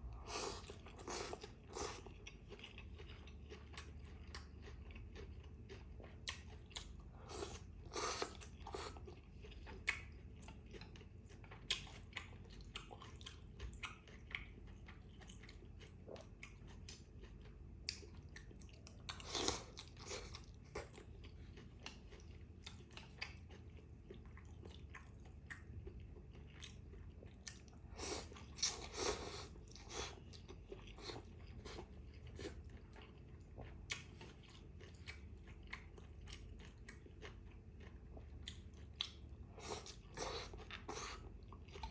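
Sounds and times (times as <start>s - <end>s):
close-up chewing and biting: 0.2s - 41.9s.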